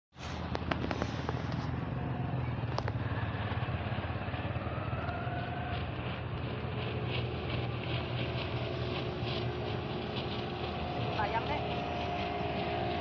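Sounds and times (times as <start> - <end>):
speedboat engine humming: 0.2 - 13.0.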